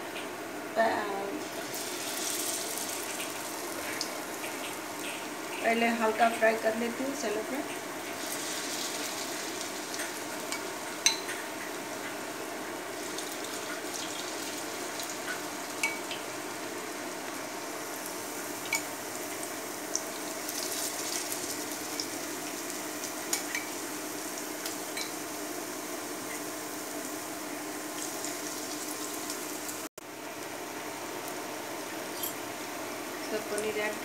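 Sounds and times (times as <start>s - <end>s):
food sizzling in hot oil: 0.7s - 34.0s.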